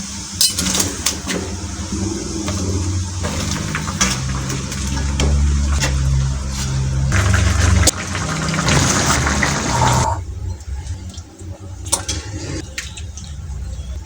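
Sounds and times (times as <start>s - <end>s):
water pouring: 0.3s - 13.7s.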